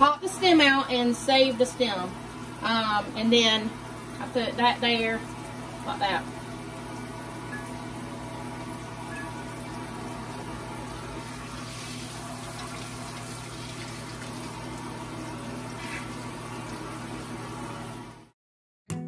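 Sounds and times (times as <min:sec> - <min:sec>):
faucet water spraying: 0:00.3 - 0:18.2.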